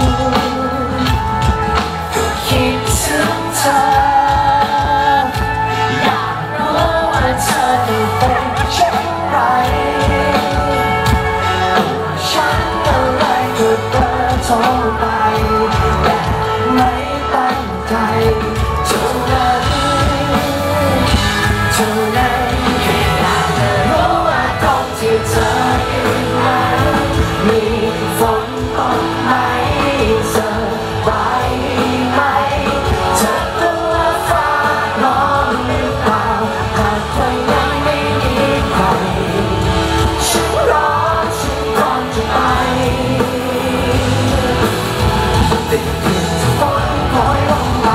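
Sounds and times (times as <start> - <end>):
electric guitar: 0.0 - 47.9
man singing into microphone: 0.0 - 47.9
rock band playing: 0.0 - 47.9.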